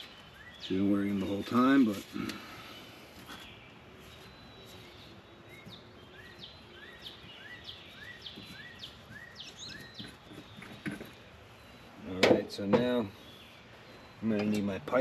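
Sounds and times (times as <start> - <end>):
bird singing faintly: 0.0 - 15.0
outdoor background noise: 0.0 - 15.0.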